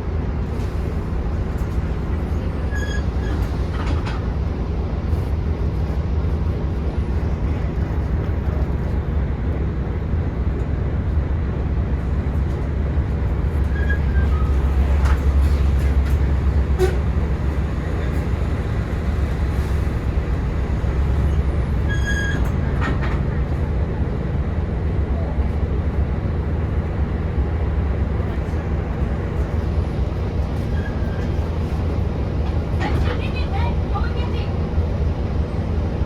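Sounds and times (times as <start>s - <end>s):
bus diesel engine droning: 0.0s - 36.0s.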